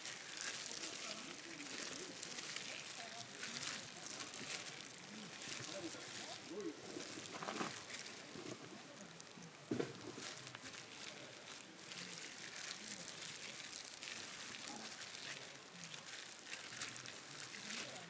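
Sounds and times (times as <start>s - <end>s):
crinkling handling sounds: 0.0s - 18.0s.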